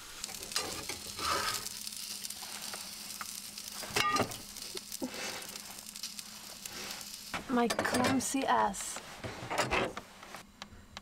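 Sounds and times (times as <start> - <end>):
food sizzling in a frying pan: 0.0 - 9.2.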